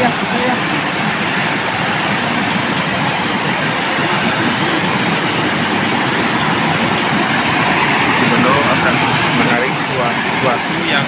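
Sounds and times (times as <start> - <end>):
loud steady rushing noise: 0.0 - 11.0.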